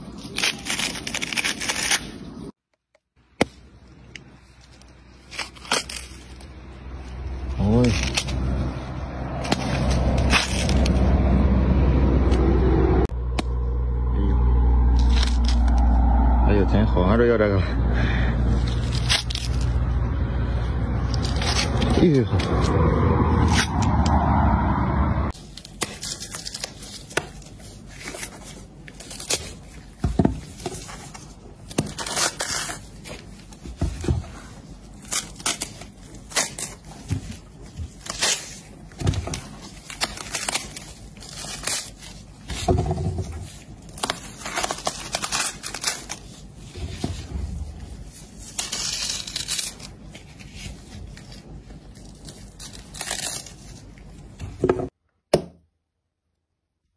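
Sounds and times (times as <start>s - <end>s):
watermelon being torn apart: 0.0s - 2.5s, 3.4s - 11.4s, 14.5s - 16.4s, 18.5s - 20.0s, 21.0s - 24.0s, 25.4s - 54.6s.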